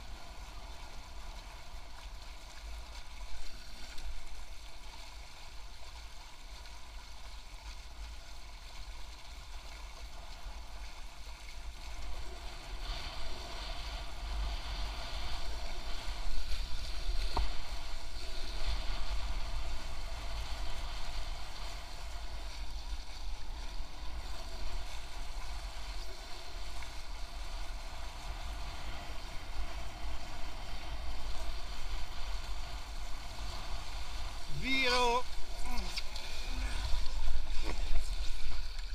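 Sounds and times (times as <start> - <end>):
water rushing along hulls: 0.0 - 38.9.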